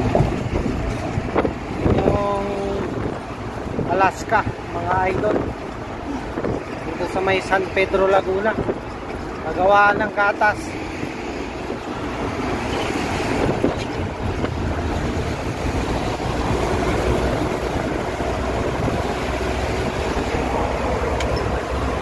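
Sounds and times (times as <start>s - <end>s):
truck engine rumble: 0.0s - 22.0s
wind on microphone: 0.0s - 22.0s.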